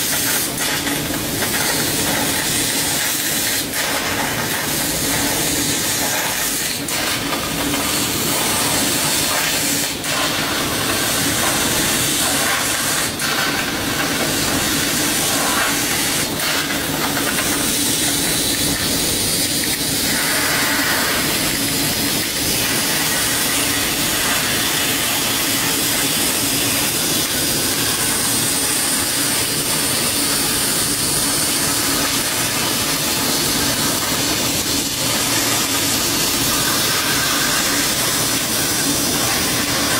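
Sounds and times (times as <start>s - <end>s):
laser cutter hissing: 0.0s - 39.9s.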